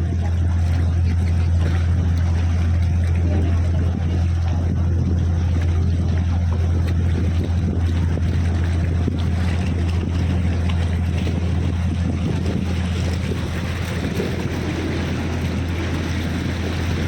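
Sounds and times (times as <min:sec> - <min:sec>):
boat motor humming: 0:00.0 - 0:17.0
water noise: 0:00.0 - 0:17.0
wind noise: 0:00.0 - 0:17.0.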